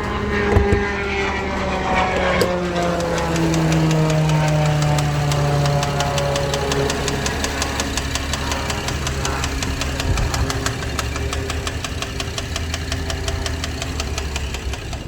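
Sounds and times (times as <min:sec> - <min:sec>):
car engine idling: 0:00.0 - 0:15.0
fast even engine ticking: 0:00.0 - 0:15.0.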